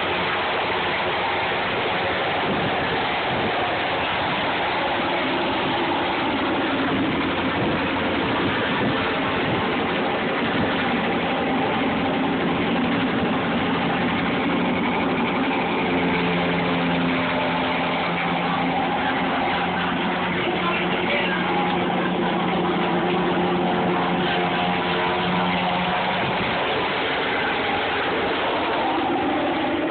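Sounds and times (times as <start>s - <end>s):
helicopter engine whine and rotor: 0.0s - 29.9s.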